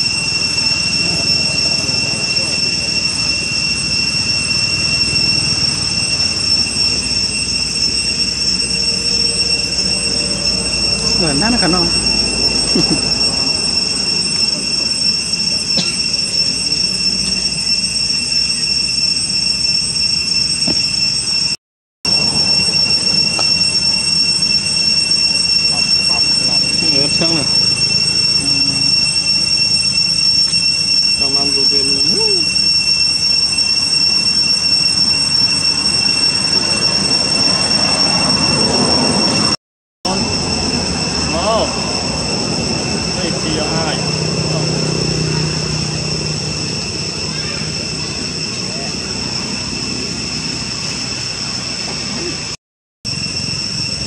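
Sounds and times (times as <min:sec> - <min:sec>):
insect chorus drone: 0:00.0 - 0:39.5, 0:40.1 - 0:54.0.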